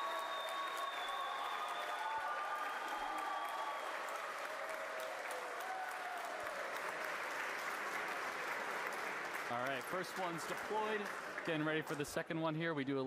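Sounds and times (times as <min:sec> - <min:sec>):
crowd applauding and cheering: 0:00.0 - 0:12.3.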